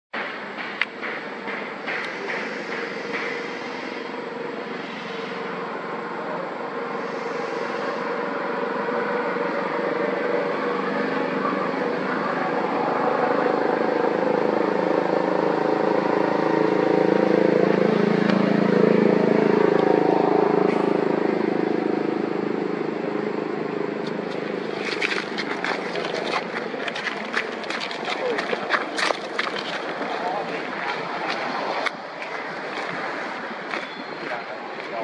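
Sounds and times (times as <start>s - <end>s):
engine drone: 0.2s - 35.0s.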